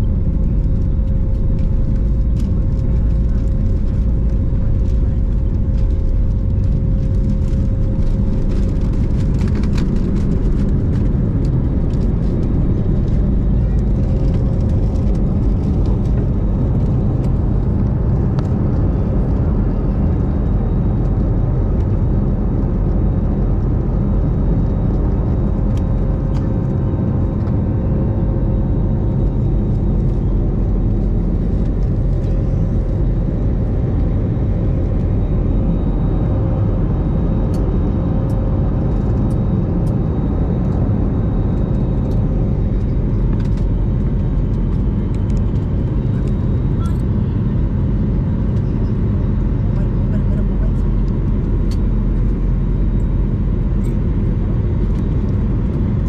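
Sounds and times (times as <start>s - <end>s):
jet engine roar in cabin: 0.0s - 56.0s.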